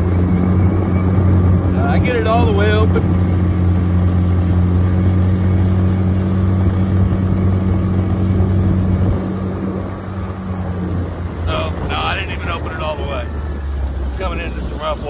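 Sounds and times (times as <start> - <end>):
outboard motor drone: 0.0 - 15.0
rushing water and spray: 0.0 - 15.0.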